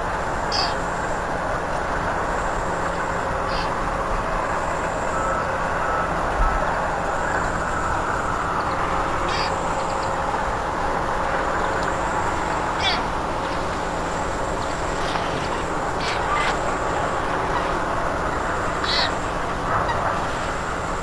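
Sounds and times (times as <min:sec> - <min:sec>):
frogs croaking: 0:00.0 - 0:21.0
noisy pond ambience: 0:00.0 - 0:21.0.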